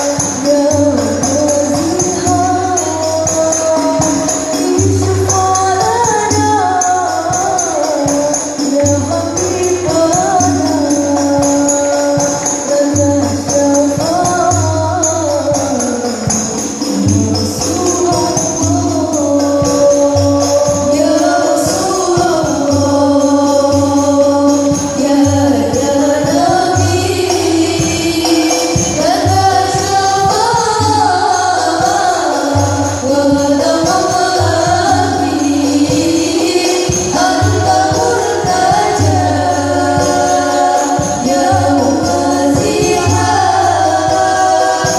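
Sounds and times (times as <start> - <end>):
jingling tambourines: 0.0 - 44.9
voices singing devotional song: 0.0 - 44.9.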